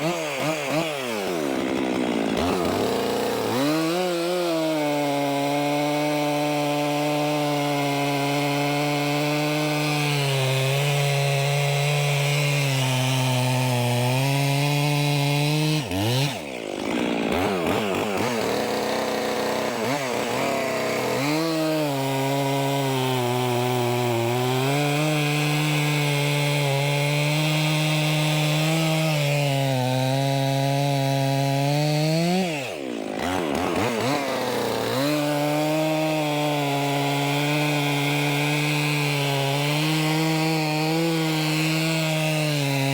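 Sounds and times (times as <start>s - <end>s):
chainsaw cutting logs: 0.0s - 42.9s.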